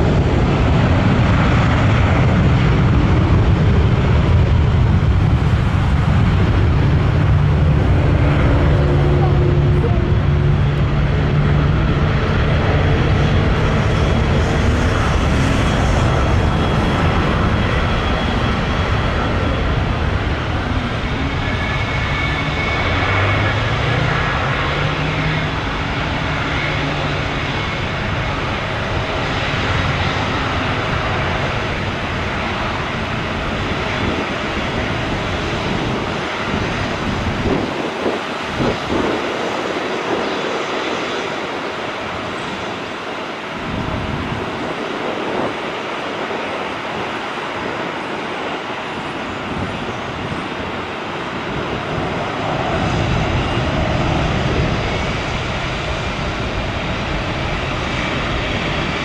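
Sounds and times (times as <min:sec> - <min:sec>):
jet engines passing overhead: 0:00.0 - 0:59.0.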